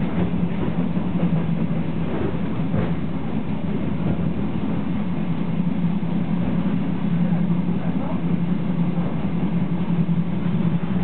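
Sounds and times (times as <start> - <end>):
rail rumble: 0.0 - 11.0
train diesel drone: 0.0 - 11.0.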